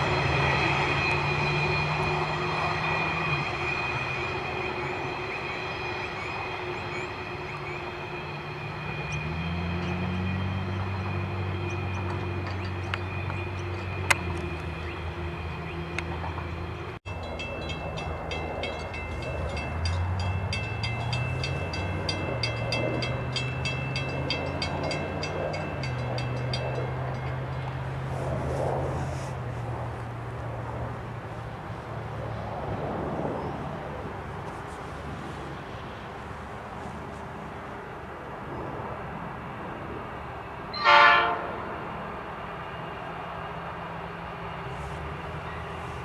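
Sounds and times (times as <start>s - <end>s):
diesel locomotive engine drone: 0.0s - 46.0s.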